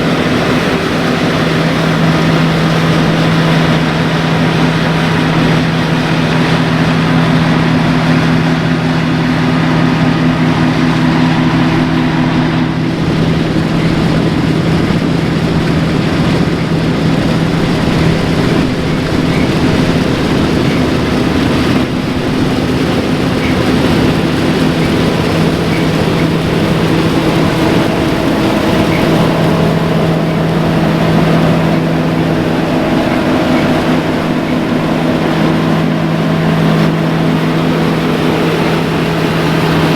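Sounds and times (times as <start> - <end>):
diesel machinery engine hum: 0.0 - 39.9.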